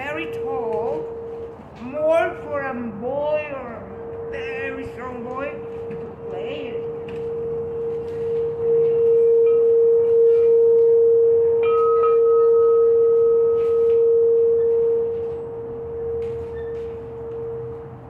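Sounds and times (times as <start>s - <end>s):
singing bowl tone: 0.0s - 18.0s.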